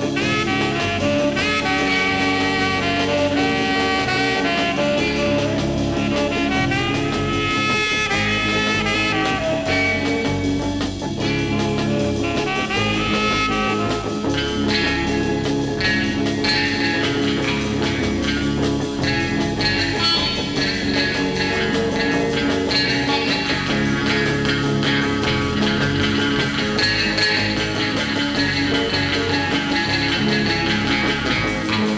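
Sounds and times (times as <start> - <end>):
instrumental rock music with guitar: 0.0 - 31.9.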